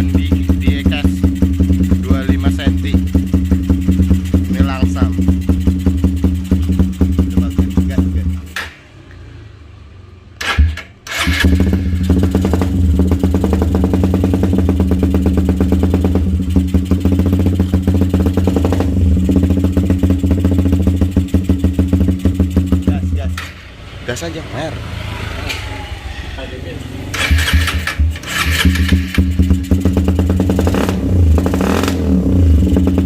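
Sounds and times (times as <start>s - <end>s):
motorcycle engine idling: 0.0s - 9.0s, 11.2s - 24.2s, 27.1s - 31.4s, 32.2s - 33.0s.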